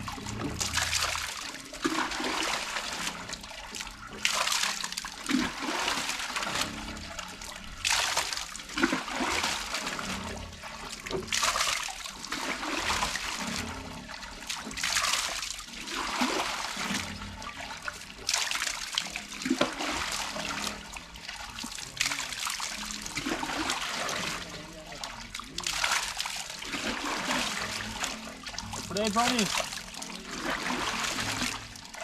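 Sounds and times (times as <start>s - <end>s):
water gushing and splashing: 0.0s - 32.0s.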